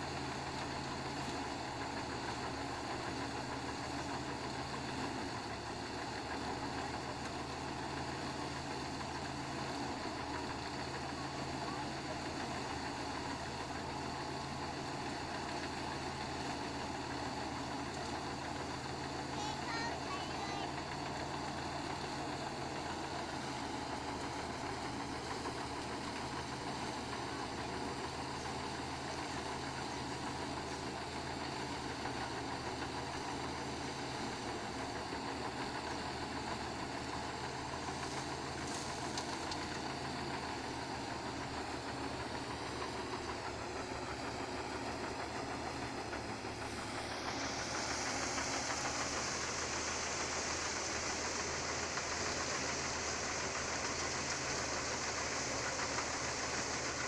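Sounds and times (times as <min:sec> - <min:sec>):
rice threshing machine running: 0:00.0 - 0:57.0.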